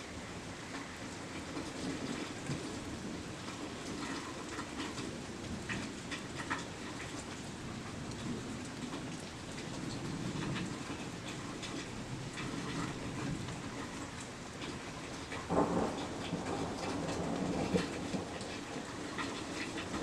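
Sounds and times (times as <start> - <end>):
heavy rain falling: 0.0 - 20.0
thunder rumbling: 1.4 - 20.0.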